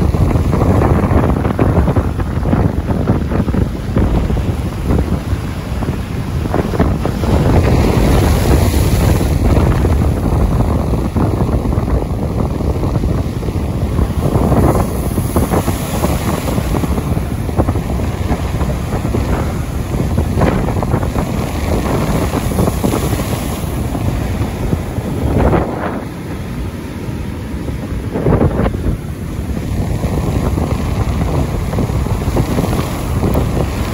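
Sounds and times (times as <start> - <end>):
strong wind on microphone: 0.0 - 33.9.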